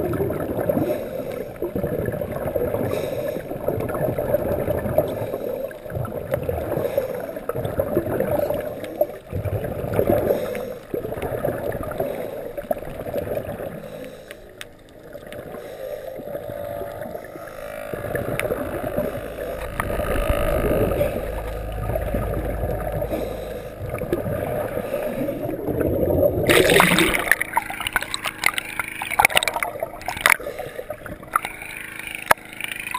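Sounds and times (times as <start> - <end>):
underwater rushing and gurgling: 0.0 - 32.9
water splashing: 6.0 - 32.9.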